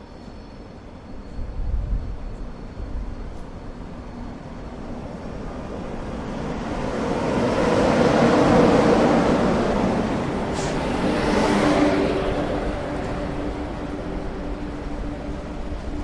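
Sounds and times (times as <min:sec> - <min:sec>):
train rumble and wheel noise: 0:00.0 - 0:16.0.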